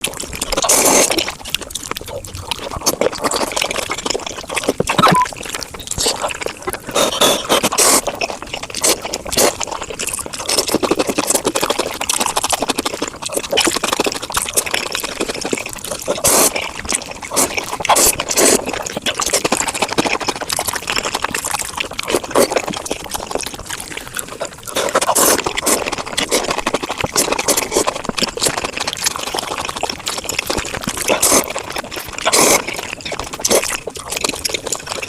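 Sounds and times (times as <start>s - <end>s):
sped-up chewing and mouth smacks: 0.0s - 35.0s.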